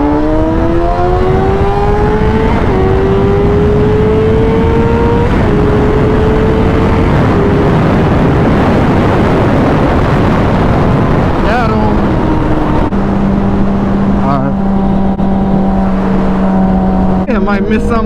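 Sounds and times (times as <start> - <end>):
motorcycle engine accelerating: 0.0 - 18.0
wind rush on microphone: 0.0 - 18.0.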